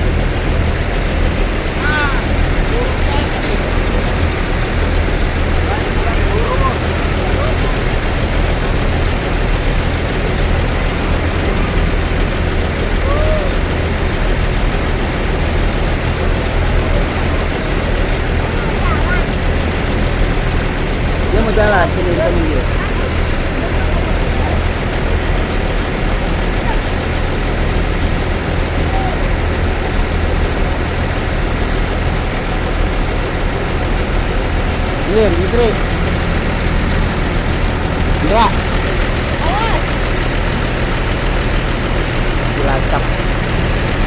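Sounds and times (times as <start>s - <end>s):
bus diesel engine idling: 0.0s - 44.0s.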